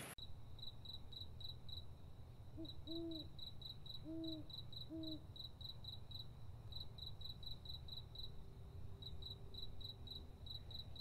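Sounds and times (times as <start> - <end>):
crickets chirping: 0.2 - 11.0.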